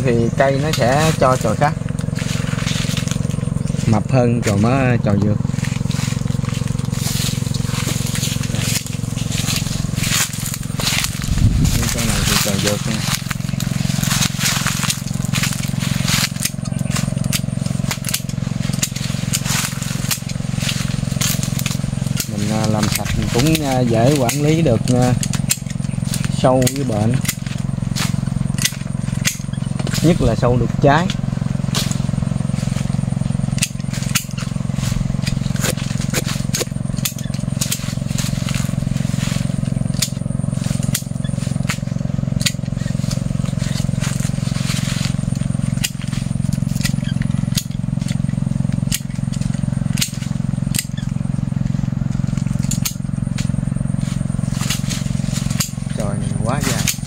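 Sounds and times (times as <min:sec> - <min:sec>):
pruning shears snipping branches: 0:00.0 - 0:57.0
small engine droning: 0:00.0 - 0:57.0
steady low hum: 0:00.0 - 0:57.0.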